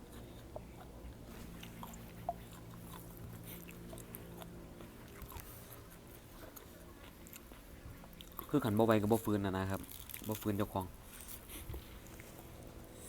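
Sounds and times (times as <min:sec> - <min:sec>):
person chewing: 0:00.0 - 0:08.6, 0:09.8 - 0:13.0
faint steady hum: 0:00.0 - 0:13.0.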